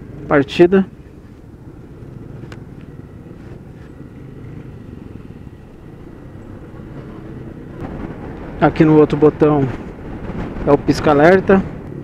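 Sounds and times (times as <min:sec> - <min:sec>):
scooter engine rumbling: 0:00.0 - 0:12.0.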